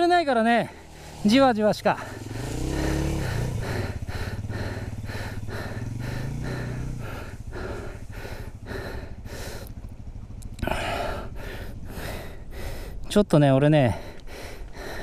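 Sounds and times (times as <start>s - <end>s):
motorcycle engine idling: 0.0s - 15.0s
rider breathing hard: 0.6s - 1.3s, 1.9s - 13.1s, 13.8s - 15.0s.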